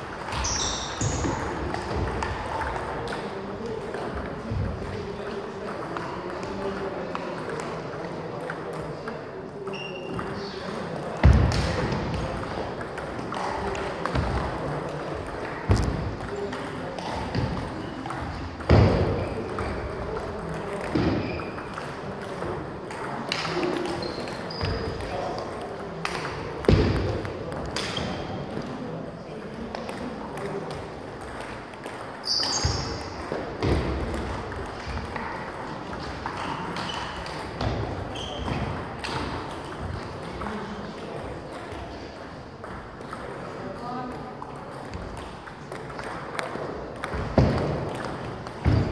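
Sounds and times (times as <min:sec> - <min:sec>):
table tennis balls tapping: 0:00.0 - 0:28.8, 0:29.4 - 0:48.9.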